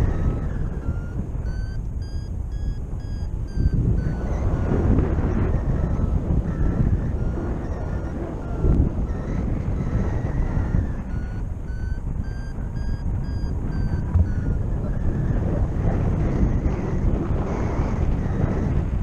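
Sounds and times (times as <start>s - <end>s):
variometer beeping: 0.0s - 19.0s
wind noise on microphone: 0.0s - 19.0s.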